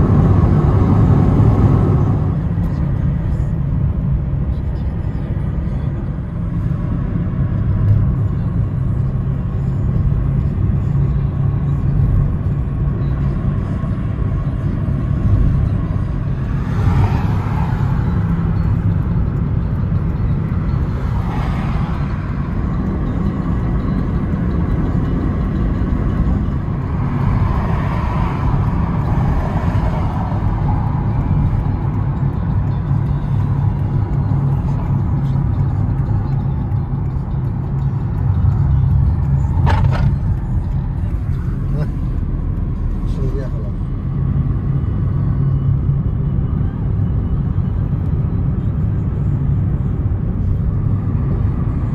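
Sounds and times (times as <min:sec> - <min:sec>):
car road rumble: 0:00.0 - 0:51.9
tyre and road noise: 0:00.0 - 0:51.9.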